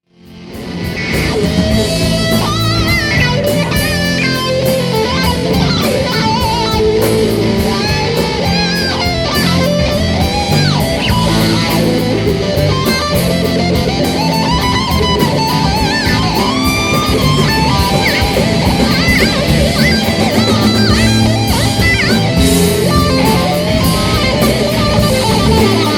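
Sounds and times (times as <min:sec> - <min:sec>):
bass guitar: 0:00.0 - 0:25.9
electric guitars: 0:00.0 - 0:25.9
bending lead guitar line: 0:00.1 - 0:25.9
drum beat: 0:00.1 - 0:25.9.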